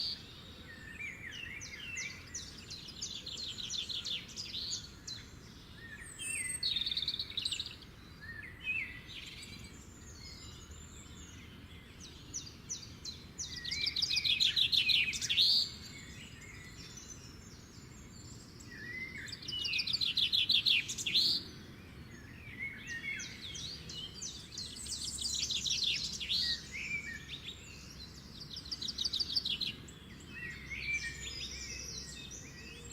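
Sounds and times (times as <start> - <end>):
songbirds singing trills: 0.0 - 32.9.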